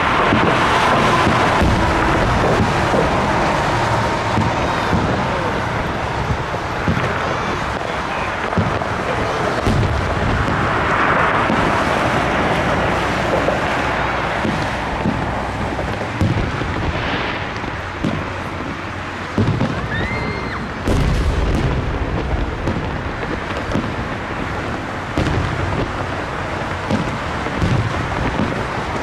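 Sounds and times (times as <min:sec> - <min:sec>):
firework rising whistle: 0:00.0 - 0:25.3
firework booms: 0:00.0 - 0:29.0
fireworks rumble and crackle: 0:00.0 - 0:29.0.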